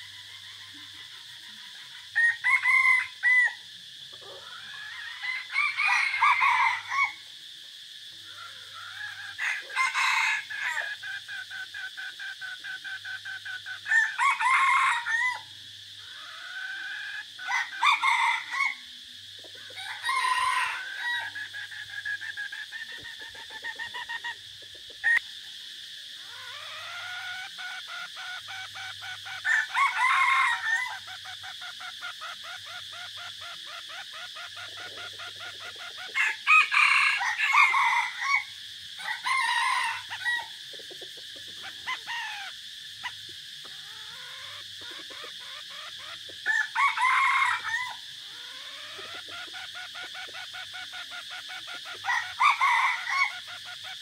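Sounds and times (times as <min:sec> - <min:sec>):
rooster clucking: 0:00.0 - 0:07.2, 0:08.2 - 0:15.4, 0:16.0 - 0:25.4, 0:26.2 - 0:54.0
roosters crowing: 0:00.0 - 0:07.4, 0:08.2 - 0:25.2, 0:26.1 - 0:54.0.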